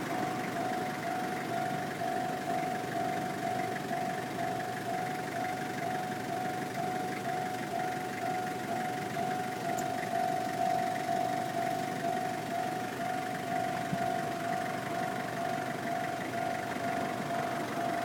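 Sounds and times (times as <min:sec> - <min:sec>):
level-crossing warning bell: 0:00.0 - 0:18.0.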